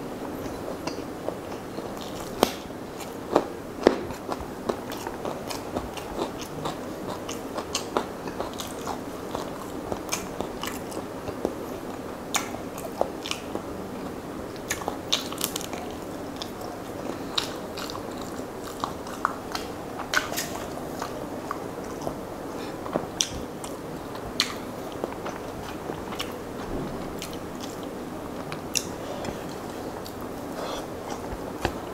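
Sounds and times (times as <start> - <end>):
person chewing food: 0.3 - 31.9.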